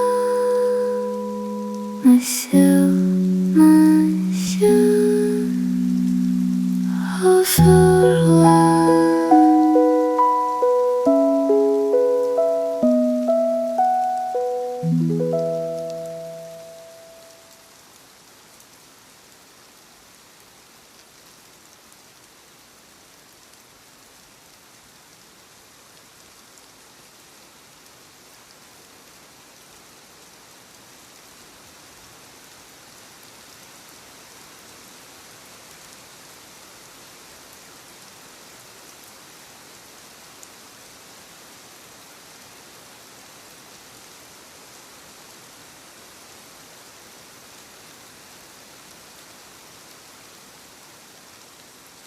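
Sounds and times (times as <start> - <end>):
hiss of falling rain: 0.0 - 52.0.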